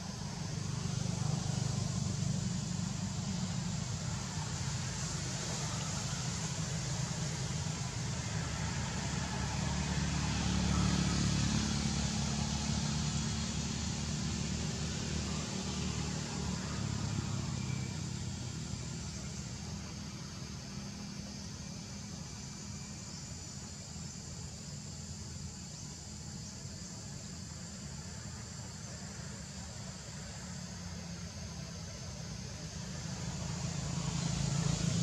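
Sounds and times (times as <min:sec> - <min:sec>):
hiss: 0:00.0 - 0:35.0.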